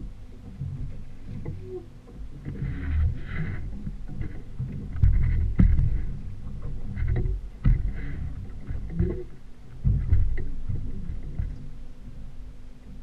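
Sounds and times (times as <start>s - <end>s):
gusty low rumbling: 0.0s - 13.0s
outboard motor running: 0.0s - 13.0s
water splashing at hull: 0.0s - 13.0s.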